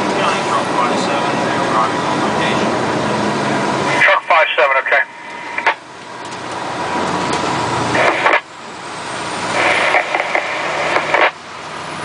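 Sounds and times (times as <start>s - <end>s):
fire truck engine and road noise: 0.0s - 12.0s.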